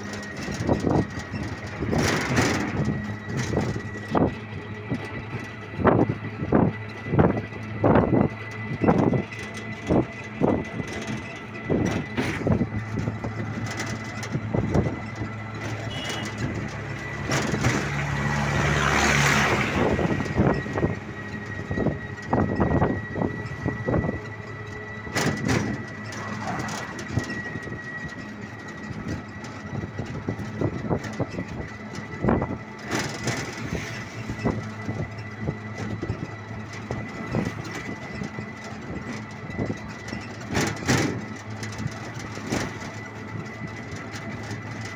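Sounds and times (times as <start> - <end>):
passing vehicle rush: 0.0 - 44.9
rattles and knocks of vehicle body: 0.0 - 44.9.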